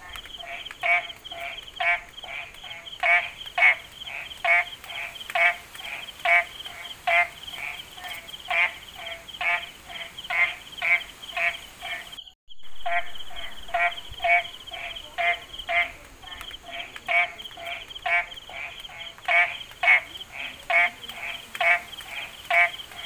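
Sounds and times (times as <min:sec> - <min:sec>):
frogs calling: 0:00.0 - 0:23.0.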